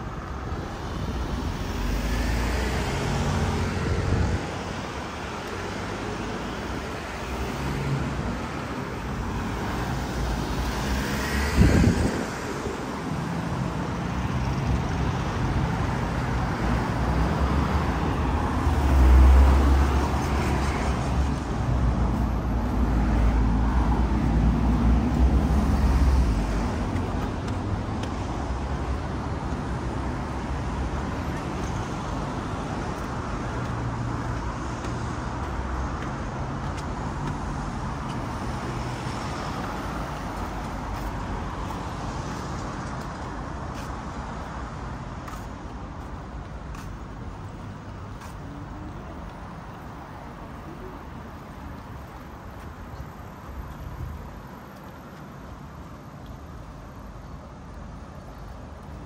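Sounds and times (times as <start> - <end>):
motor vehicles passing: 0.7 - 56.4.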